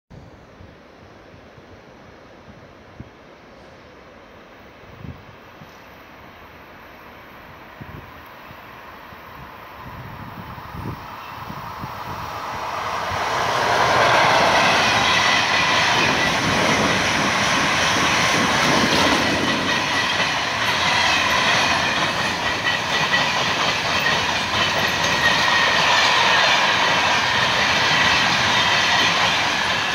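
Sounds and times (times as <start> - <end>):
freight train passing: 0.8 - 29.9.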